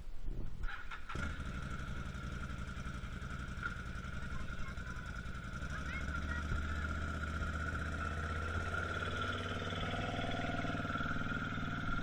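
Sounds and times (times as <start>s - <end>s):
quad bike engine running: 0.6s - 12.0s.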